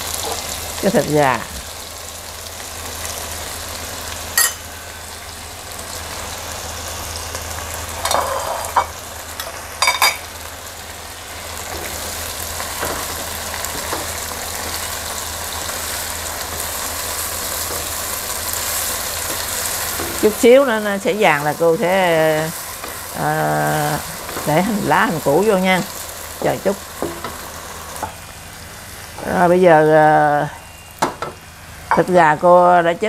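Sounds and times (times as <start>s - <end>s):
chicken sizzling in sauce: 0.0s - 32.4s.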